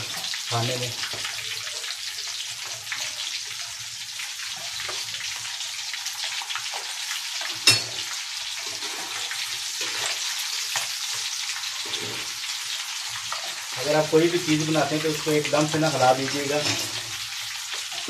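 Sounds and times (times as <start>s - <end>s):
chicken deep-frying in hot oil: 0.0s - 18.0s.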